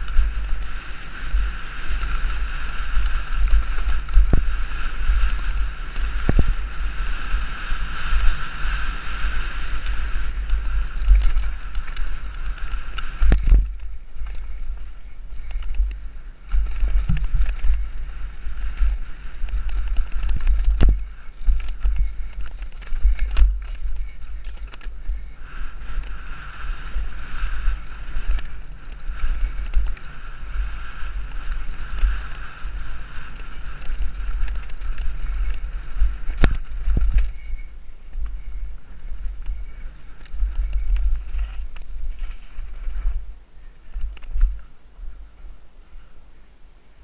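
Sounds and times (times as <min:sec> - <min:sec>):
bike knocking on roots and rocks: 0:00.0 - 0:43.2
mountain bike rattling: 0:00.0 - 0:46.1
wind buffeting microphone: 0:00.0 - 0:46.3.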